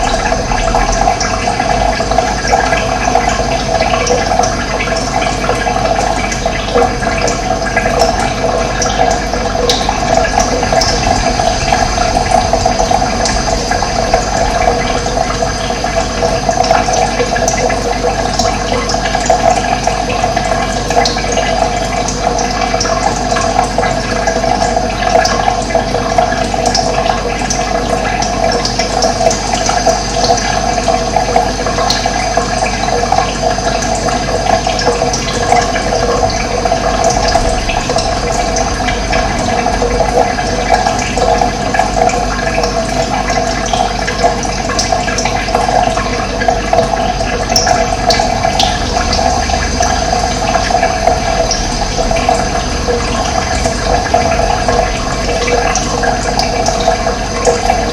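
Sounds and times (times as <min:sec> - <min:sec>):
running water flowing: 0:00.0 - 0:57.9.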